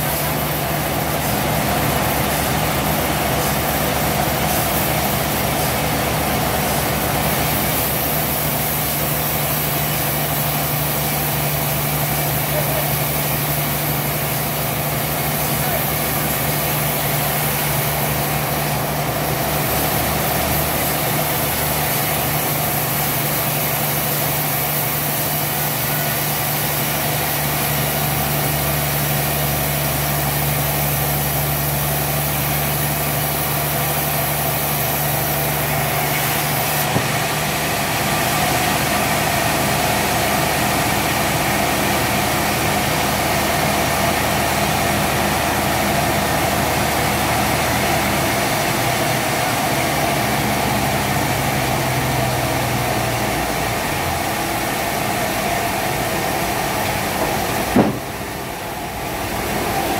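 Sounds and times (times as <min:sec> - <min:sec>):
mechanical hum: 0:00.0 - 0:59.9
sawmill machinery drone: 0:00.0 - 0:59.9.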